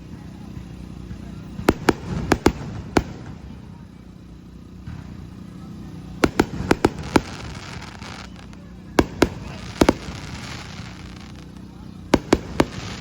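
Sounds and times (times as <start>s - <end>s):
fireworks shells bursting: 1.0s - 3.7s, 4.4s - 13.0s.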